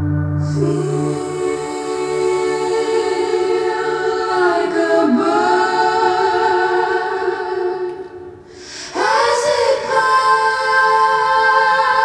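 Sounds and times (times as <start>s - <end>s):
layered slow vocal music: 0.0s - 12.0s.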